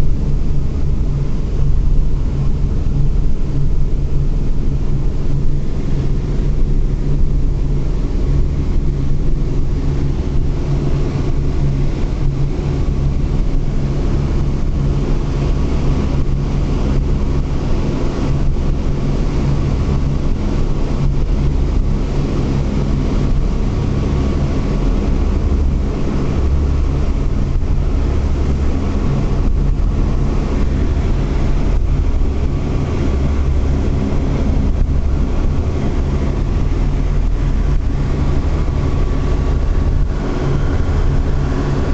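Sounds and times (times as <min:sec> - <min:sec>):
radial aircraft engines droning: 0:00.0 - 0:41.9.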